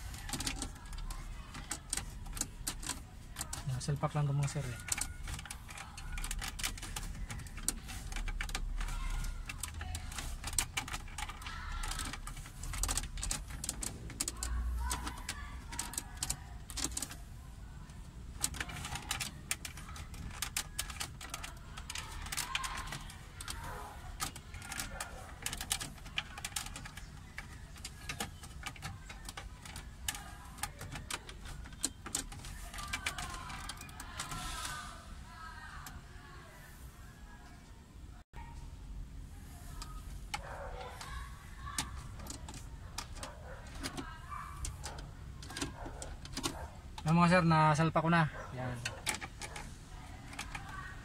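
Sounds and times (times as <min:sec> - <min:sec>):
plastic connectors clicking and rattling: 0:00.0 - 0:36.0, 0:39.8 - 0:48.2, 0:48.8 - 0:51.0.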